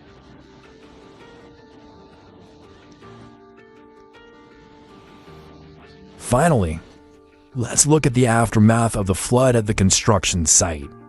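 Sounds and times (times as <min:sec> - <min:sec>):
sustained chord music: 0:00.0 - 0:11.0.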